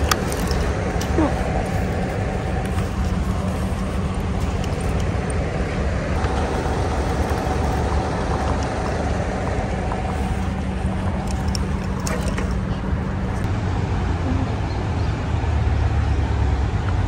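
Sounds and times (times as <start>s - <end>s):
higher steady hum: 0.0s - 15.0s
constant low hum: 0.0s - 17.0s
vehicle engines idling: 0.0s - 17.0s.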